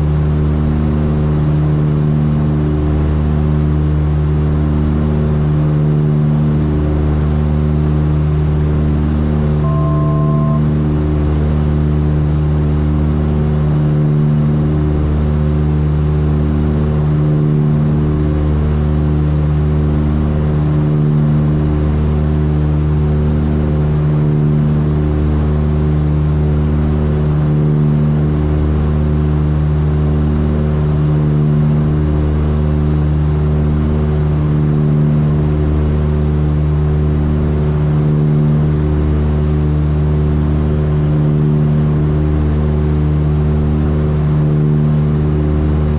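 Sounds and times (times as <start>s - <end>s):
throbbing aircraft cabin drone: 0.0s - 45.9s.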